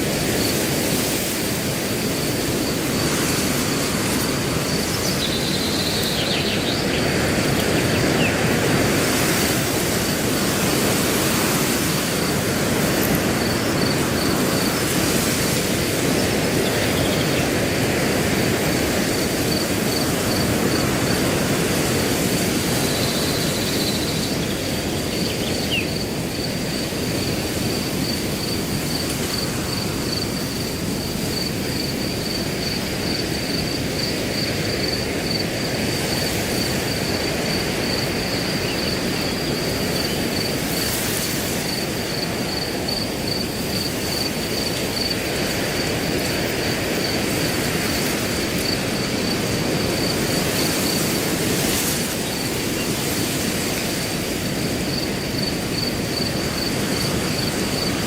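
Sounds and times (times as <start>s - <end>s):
cricket chirping: 0.0s - 58.0s
wind through grass: 0.0s - 58.0s.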